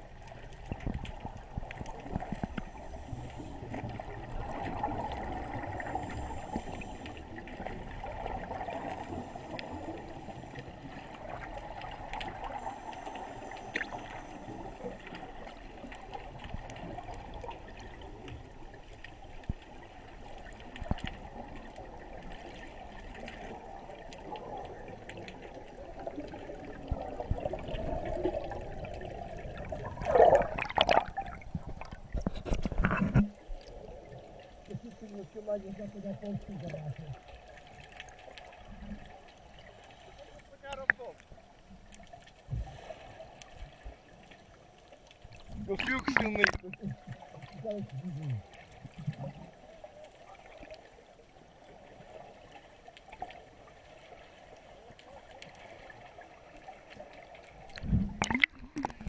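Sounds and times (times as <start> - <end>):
muffled underwater water rush: 0.0 - 59.0
water splashing and sloshing: 0.0 - 59.0.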